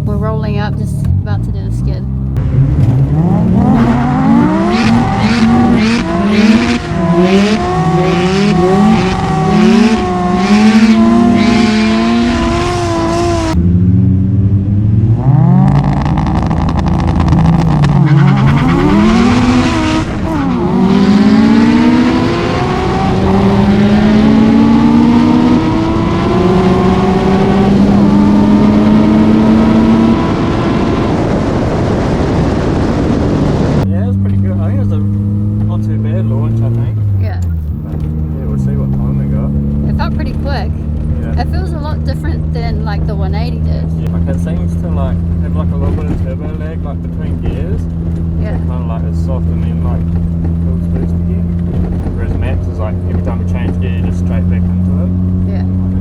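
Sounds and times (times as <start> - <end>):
rotary engine revving: 0.0 - 56.0.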